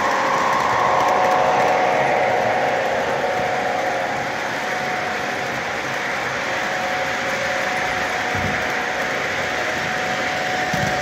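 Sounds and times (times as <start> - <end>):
toy train whine: 0.0 - 11.0.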